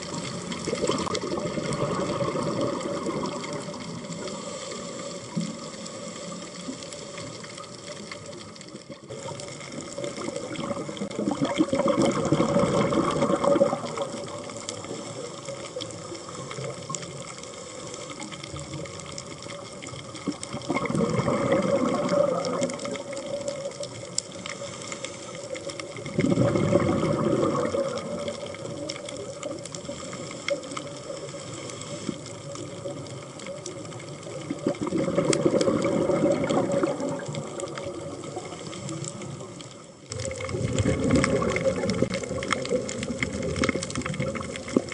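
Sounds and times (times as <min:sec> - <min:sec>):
faint steady hum: 0:00.0 - 0:44.9
steady underwater hiss: 0:00.0 - 0:44.9
underwater bubbles rushing: 0:00.0 - 0:44.9.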